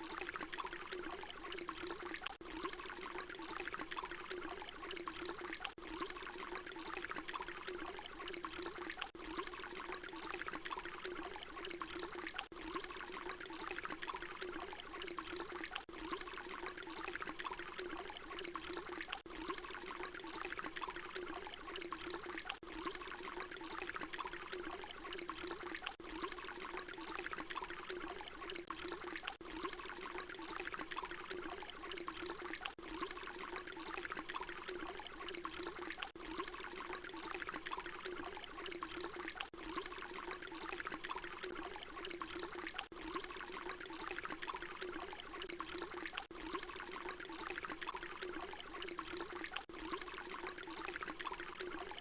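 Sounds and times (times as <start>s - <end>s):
water pouring: 0.0s - 52.0s.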